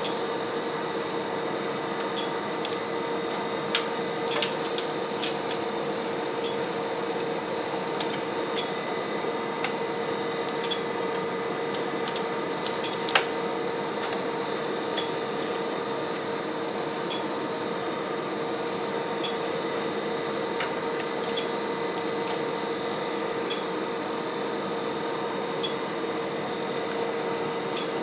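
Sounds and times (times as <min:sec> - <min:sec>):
machine hum with whine: 0:00.0 - 0:28.0.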